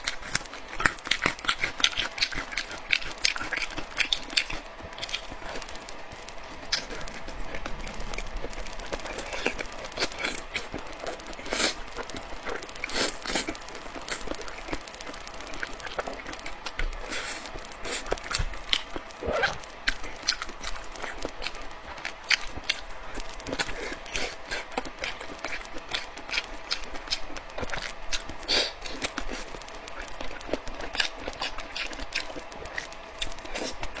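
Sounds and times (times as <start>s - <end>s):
person chewing with mouth clicks: 0.0s - 34.0s.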